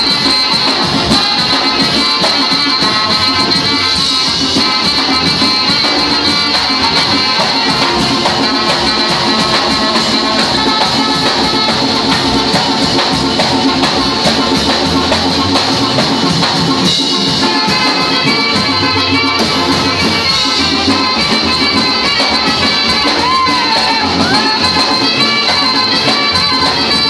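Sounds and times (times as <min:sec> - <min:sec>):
drums: 0:00.0 - 0:27.0
live band dance music: 0:00.0 - 0:27.0
saxophone: 0:00.0 - 0:27.0.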